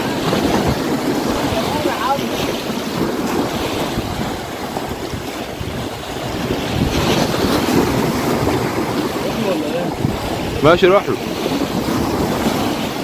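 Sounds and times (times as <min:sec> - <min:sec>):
waves splashing against rocks: 0:00.0 - 0:13.0
wind buffeting microphone: 0:00.0 - 0:13.0.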